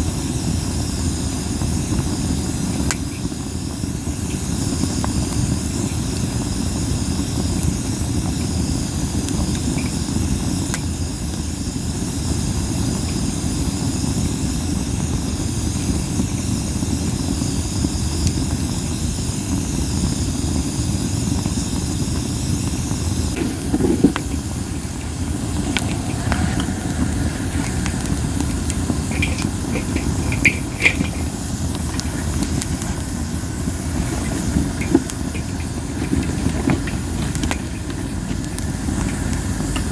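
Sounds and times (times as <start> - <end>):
campfire hissing: 0.0 - 39.9
fire crackles and pops: 0.0 - 39.9
wind rumble on microphone: 0.0 - 39.9.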